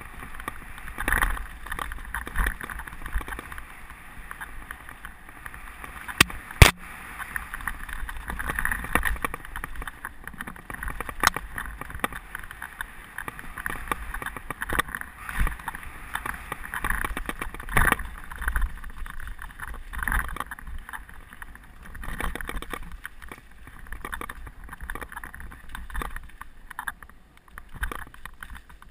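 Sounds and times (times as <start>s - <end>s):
bike rattling with sharp knocks: 0.0s - 3.6s, 4.2s - 28.9s
bike tyres rumbling over dirt: 0.0s - 28.9s.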